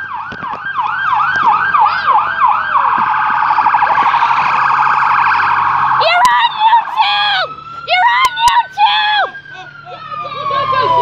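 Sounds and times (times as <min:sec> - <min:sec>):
fire truck siren yelping: 0:00.0 - 0:11.0.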